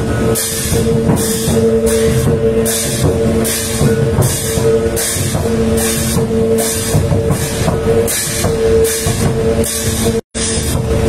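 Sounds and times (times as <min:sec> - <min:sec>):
cymbal hits: 0:00.0 - 0:11.0
held low note: 0:00.0 - 0:11.0.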